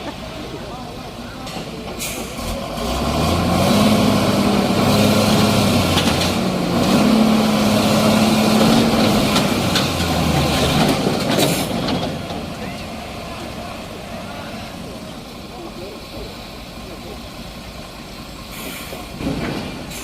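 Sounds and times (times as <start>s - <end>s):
heavy vehicle engine revving: 0.0s - 20.0s.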